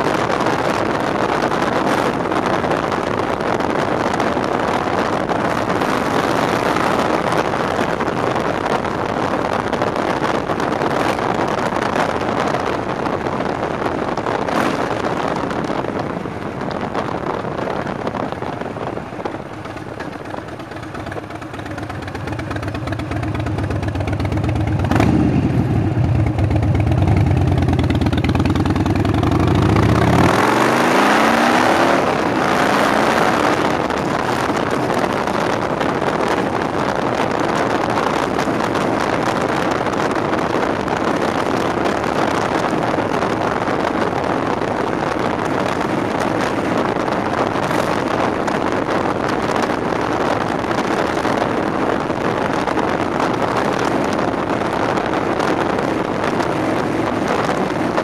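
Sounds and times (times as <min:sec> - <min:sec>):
motorcycle engine idling and revving: 0:00.0 - 0:58.0
wind buffeting microphone: 0:00.0 - 0:58.0.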